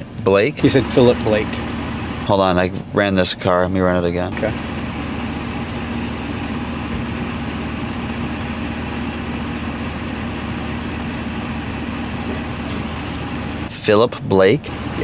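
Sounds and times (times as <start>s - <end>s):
vehicle engine idling: 0.6s - 15.0s.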